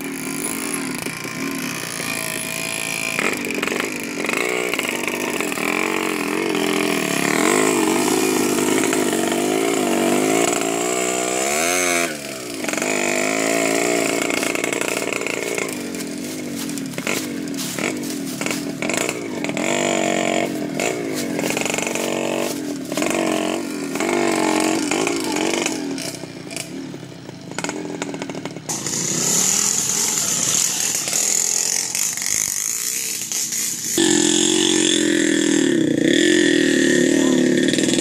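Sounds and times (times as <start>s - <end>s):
small motorbike engine revving: 0.0s - 38.0s.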